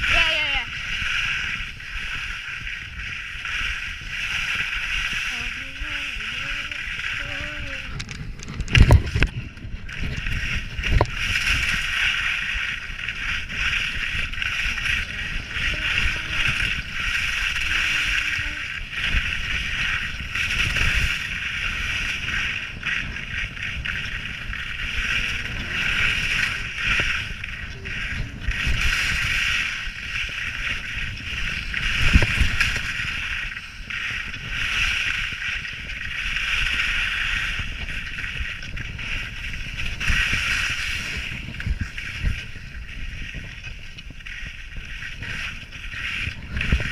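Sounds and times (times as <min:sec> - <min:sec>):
skis scraping icy snow: 0:00.0 - 0:46.9
wind rumble on microphone: 0:00.0 - 0:46.9.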